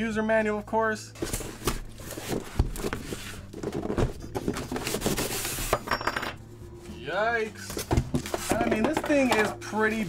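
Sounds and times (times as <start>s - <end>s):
cardboard and packaging rustling: 1.2s - 6.0s, 6.7s - 10.0s.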